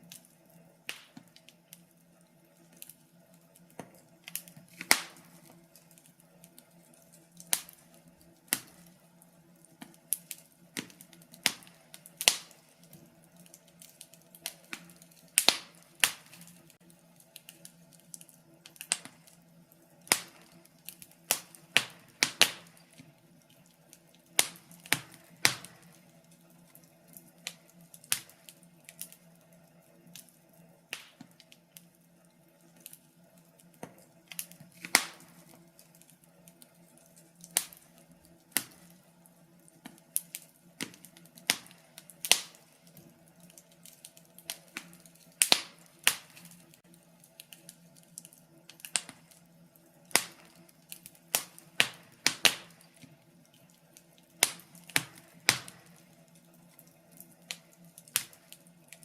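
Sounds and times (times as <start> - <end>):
firewood crackling: 0.0 - 59.0.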